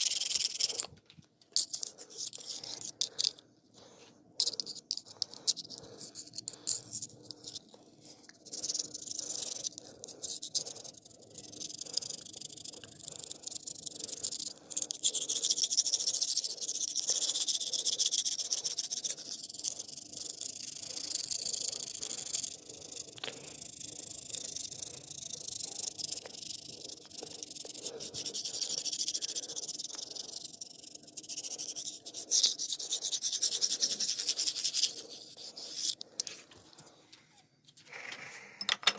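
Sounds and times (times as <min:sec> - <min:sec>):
rubbing and scratching on skin and hair: 0:01.5 - 0:38.2.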